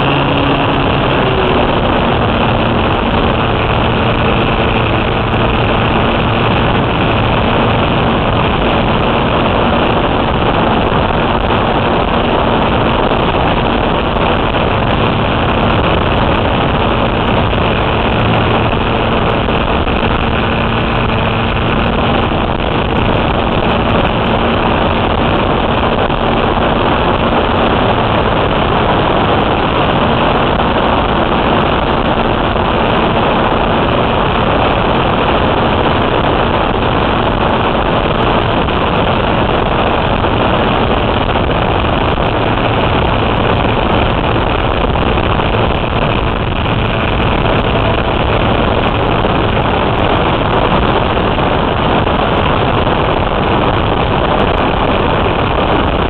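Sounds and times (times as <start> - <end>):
model airplane engine running: 0.0 - 56.0
rushing airflow: 0.0 - 56.0.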